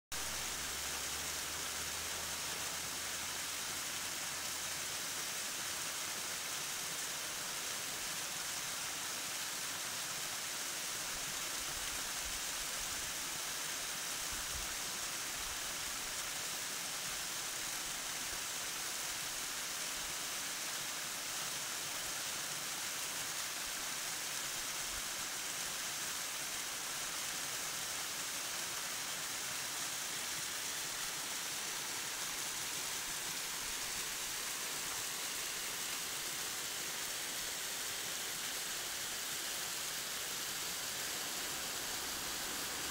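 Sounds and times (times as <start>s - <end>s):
waterfall splashing into pool: 0.2s - 42.9s.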